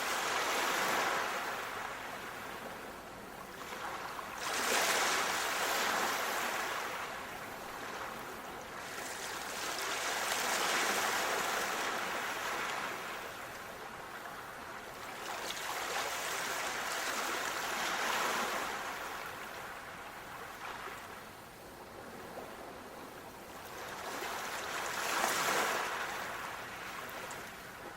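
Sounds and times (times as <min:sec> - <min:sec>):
sea waves washing in: 0:00.0 - 0:27.9.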